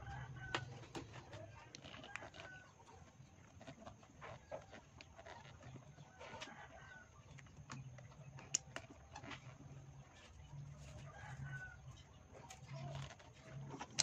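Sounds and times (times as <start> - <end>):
chickens clucking: 2.4 - 14.0.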